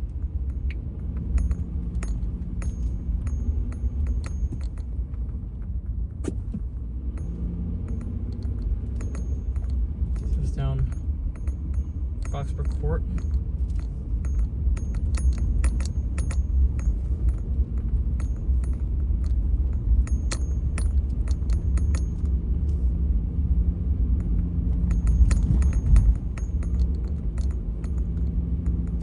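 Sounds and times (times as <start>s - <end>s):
light metallic clinks: 0.0s - 23.0s, 24.0s - 29.0s
car engine and road rumble: 0.0s - 29.0s.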